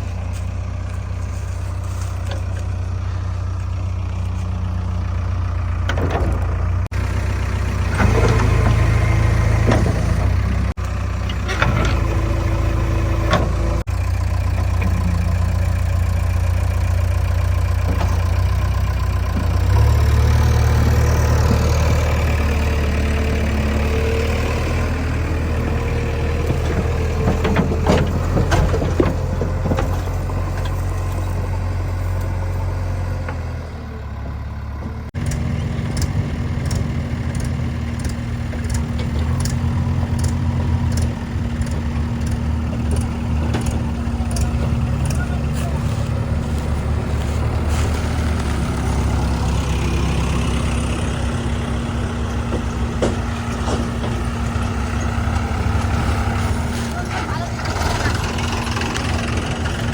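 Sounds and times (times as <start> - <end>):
engine running lower note: 0.0 - 59.9
heavy diesel engine droning: 0.0 - 59.9.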